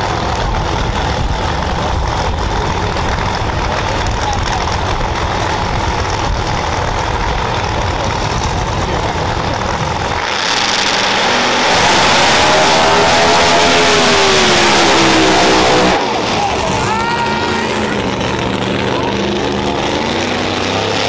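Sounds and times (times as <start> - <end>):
drag-race car engines roaring: 0.0 - 21.0.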